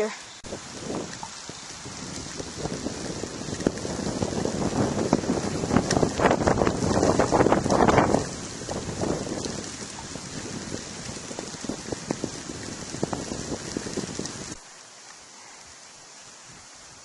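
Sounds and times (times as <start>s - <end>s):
snowstorm rushing hiss: 0.0s - 17.0s
crackling ticks of snow: 0.9s - 15.7s.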